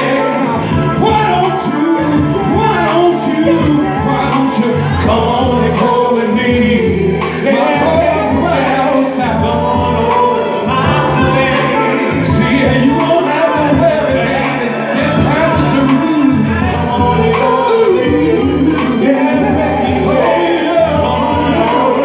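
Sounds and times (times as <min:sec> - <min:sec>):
male vocal group singing: 0:00.0 - 0:22.0
music with steady beat and bass: 0:00.0 - 0:22.0.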